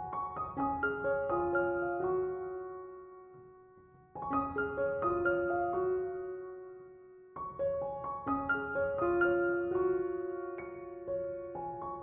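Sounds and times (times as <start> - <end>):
solo piano music: 0.0 - 12.0.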